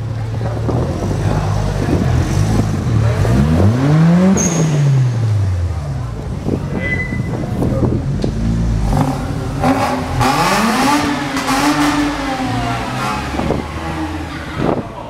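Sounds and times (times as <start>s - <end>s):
rotary engine revving: 0.5s - 14.9s.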